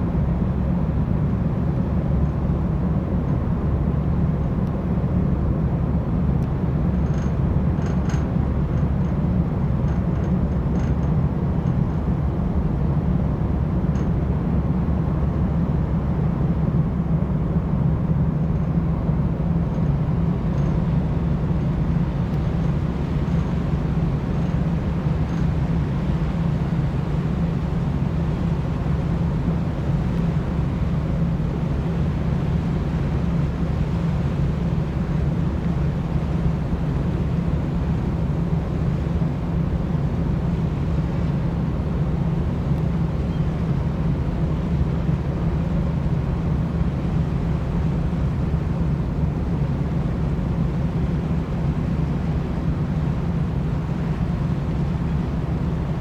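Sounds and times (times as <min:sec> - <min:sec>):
ship engines rumbling: 0:00.0 - 0:56.0.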